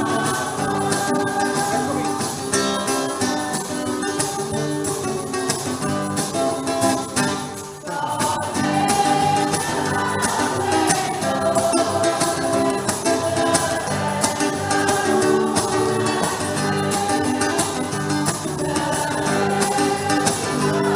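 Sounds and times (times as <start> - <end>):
choir singing a gospel hymn: 0.0 - 7.1, 7.8 - 20.9
plucked strings: 0.0 - 20.9
tambourine: 0.0 - 20.9.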